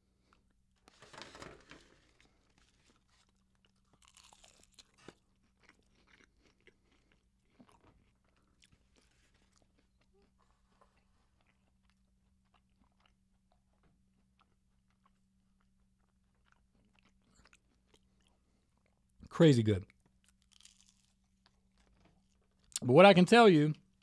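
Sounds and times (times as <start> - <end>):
pastry crunching: 0.3 - 19.1, 19.9 - 22.8.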